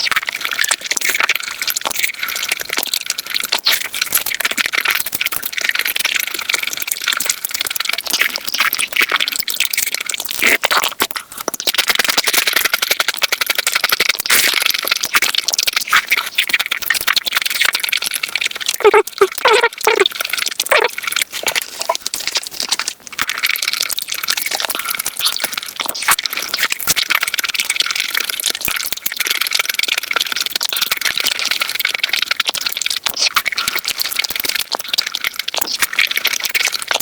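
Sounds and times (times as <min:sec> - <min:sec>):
chewing and mouth clicks: 0:00.0 - 0:37.0.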